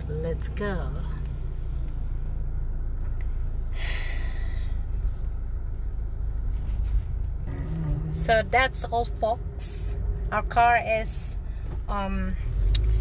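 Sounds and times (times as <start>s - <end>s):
car rumbling moving off: 0.0s - 13.0s.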